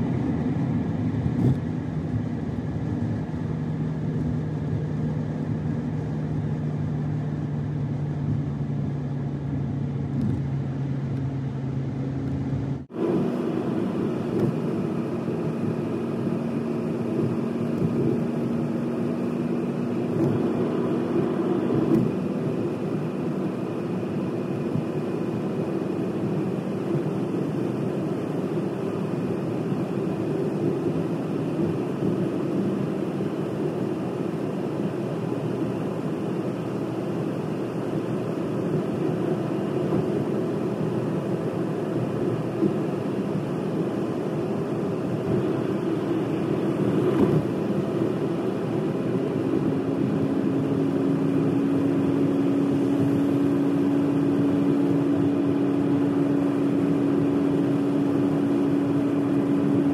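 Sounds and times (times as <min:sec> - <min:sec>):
car tyre and engine drone: 0:00.0 - 0:59.9.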